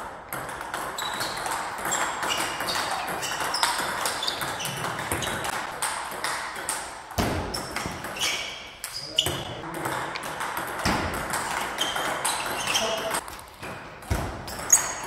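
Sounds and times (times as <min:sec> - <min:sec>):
table tennis balls pinging: 0:00.0 - 0:15.0.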